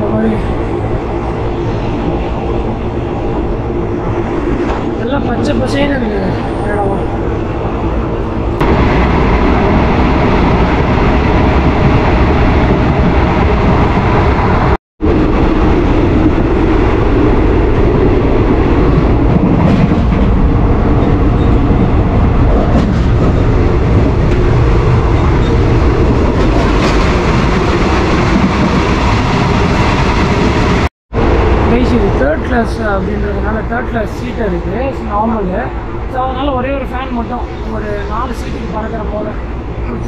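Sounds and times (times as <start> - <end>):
train wheels rumbling and rattling: 0.0 - 40.0.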